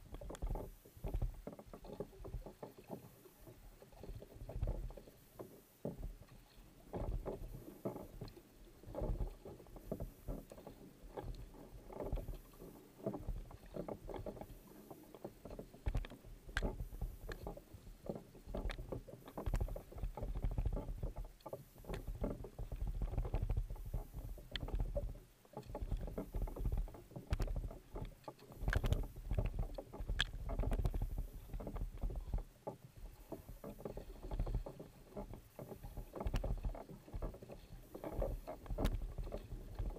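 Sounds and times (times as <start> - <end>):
kayak paddle strokes in water: 0.0 - 39.9
low rumble of water and wind: 0.0 - 39.9
water running along hull: 0.0 - 39.9.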